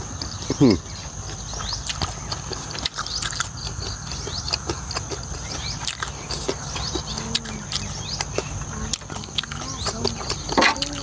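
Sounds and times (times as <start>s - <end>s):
high insect trill: 0.0s - 11.0s
chewing and wet mouth clicks: 1.2s - 11.0s.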